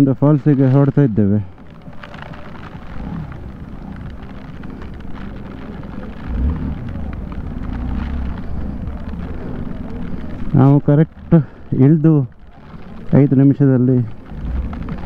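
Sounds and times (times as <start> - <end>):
wind rushing over microphone: 0.0 - 15.0
motorcycle engine running: 1.6 - 15.0.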